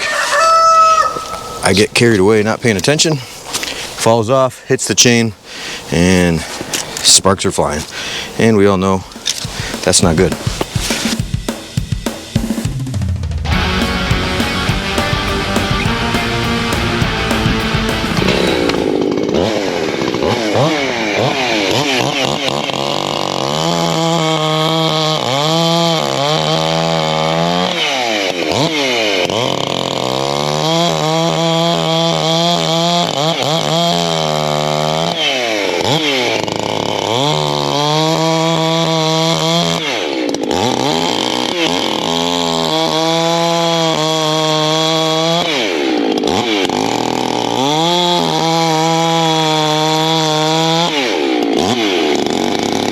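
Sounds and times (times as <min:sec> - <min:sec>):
chainsaw cutting log: 0:00.0 - 0:04.1, 0:05.0 - 0:12.6, 0:13.6 - 0:52.9.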